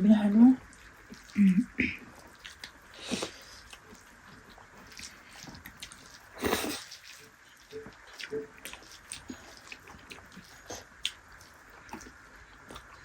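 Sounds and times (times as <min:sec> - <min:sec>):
chewing: 0:00.6 - 0:13.0.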